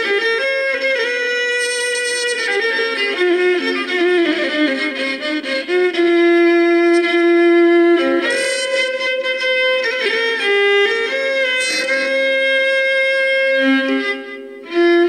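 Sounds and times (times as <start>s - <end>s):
bowed electric violin melody: 0.0s - 15.0s.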